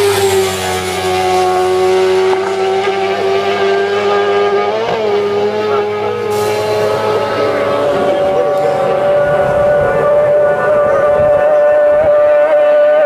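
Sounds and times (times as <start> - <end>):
racing engine at high revs: 0.0 - 13.0.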